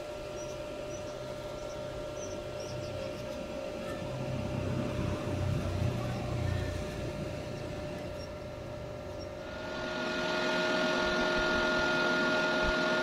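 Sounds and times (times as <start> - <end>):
welding machine hum and whine: 0.0 - 13.0.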